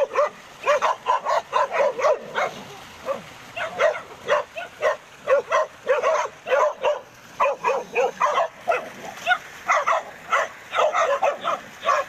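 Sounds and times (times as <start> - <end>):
dog barking rapidly: 0.0 - 12.0.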